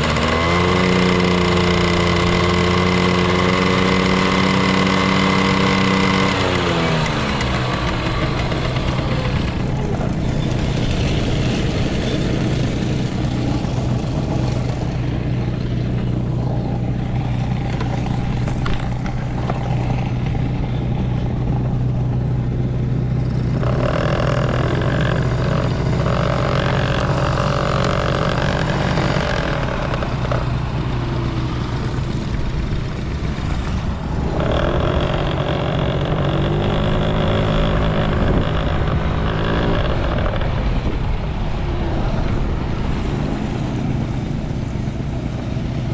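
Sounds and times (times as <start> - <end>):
scooter engine running: 0.0 - 45.9.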